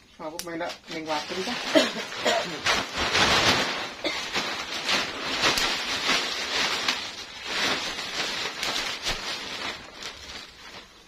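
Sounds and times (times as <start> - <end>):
plastic bag crinkling: 0.6 - 11.0.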